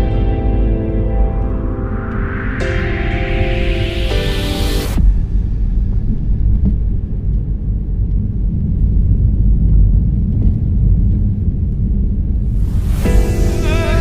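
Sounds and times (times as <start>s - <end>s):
car engine and tyre noise: 0.9s - 13.7s.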